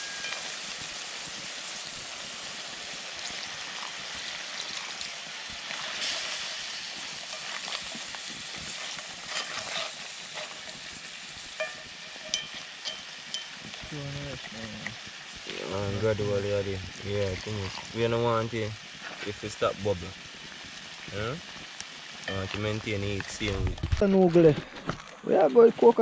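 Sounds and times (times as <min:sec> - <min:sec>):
liquid bubbling in a pan: 0:00.0 - 0:25.0.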